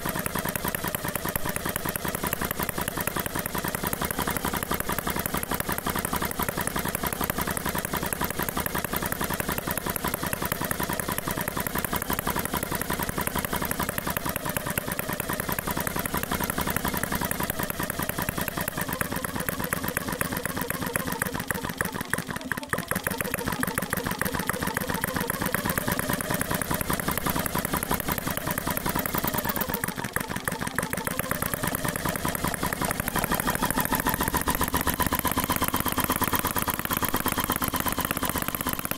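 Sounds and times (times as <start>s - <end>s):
model engine clattering: 0.0s - 38.9s.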